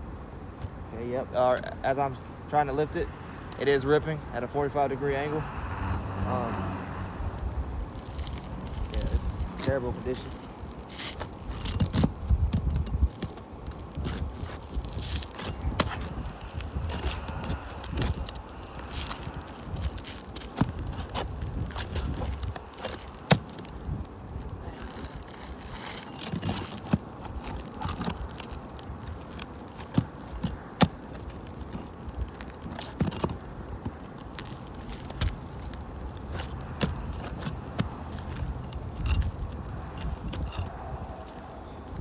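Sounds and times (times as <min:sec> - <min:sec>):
roof shingles scraping and crackling: 0:07.9 - 0:41.9.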